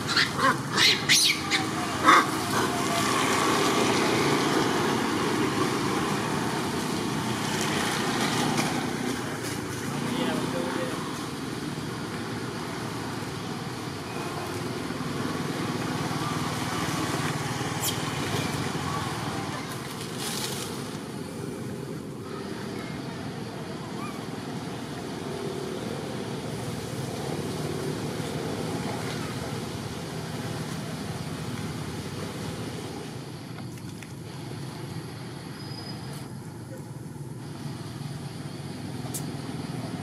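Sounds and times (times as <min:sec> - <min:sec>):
continuous outdoor hiss: 0:00.0 - 0:40.0.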